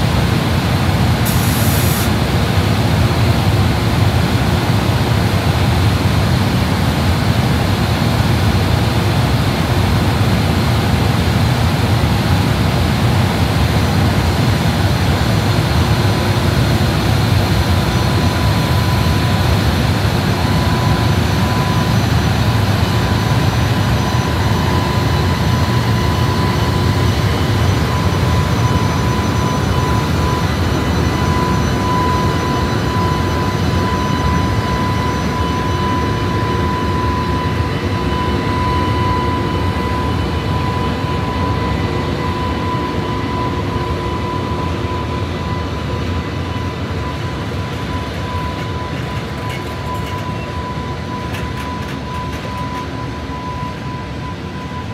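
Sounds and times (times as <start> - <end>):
locomotive cooling blowers rushing: 0.0 - 54.9
steady high whine: 0.0 - 54.9.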